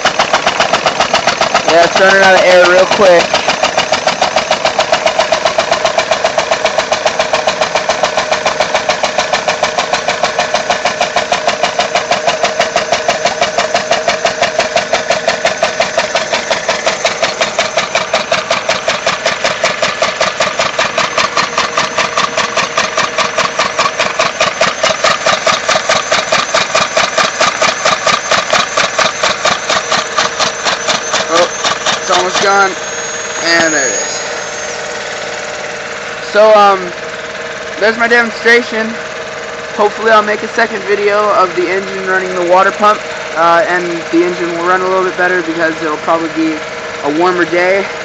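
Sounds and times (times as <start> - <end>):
compressed-air engine chuffing: 0.0 - 48.0.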